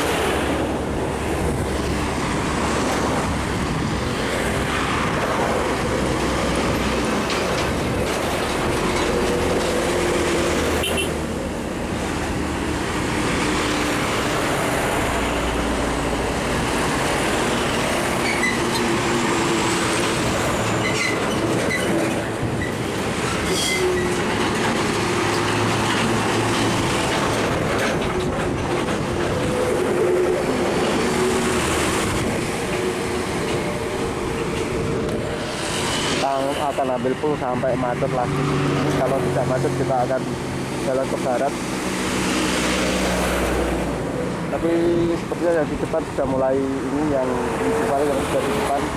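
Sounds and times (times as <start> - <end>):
heavy truck traffic: 0.0 - 48.9.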